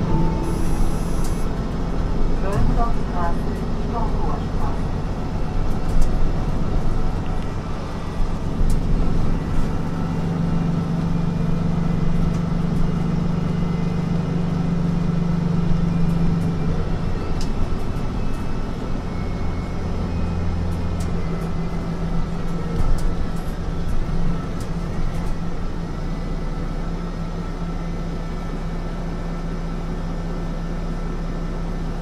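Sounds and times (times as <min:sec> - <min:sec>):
bus diesel engine humming: 0:00.0 - 0:32.0.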